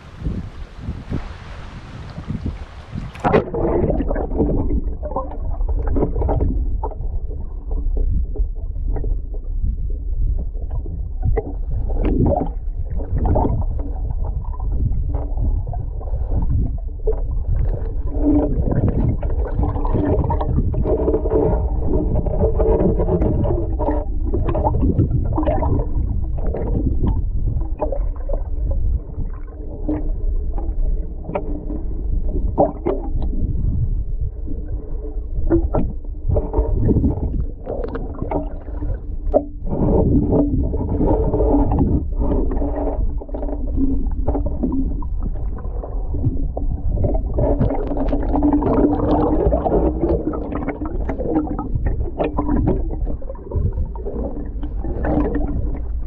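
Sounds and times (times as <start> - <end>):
bubbling: 0.0 - 56.0
muffled underwater sloshing: 0.0 - 56.0
dull underwater knocks: 2.0 - 34.8, 35.4 - 56.0.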